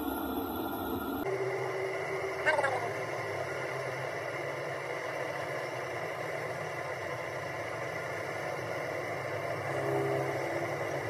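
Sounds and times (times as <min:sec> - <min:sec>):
motor running with low hum: 0:00.0 - 0:11.0.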